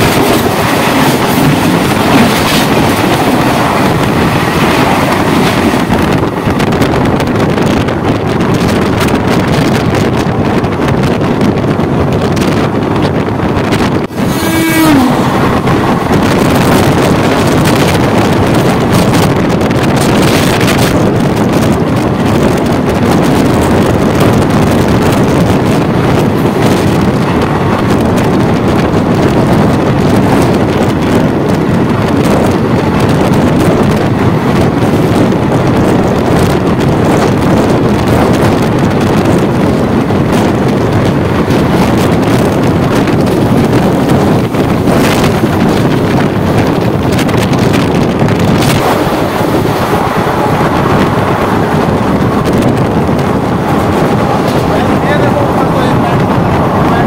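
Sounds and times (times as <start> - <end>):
train wheels on rails: 0.0 - 57.0
wind rushing on microphone: 0.0 - 57.0.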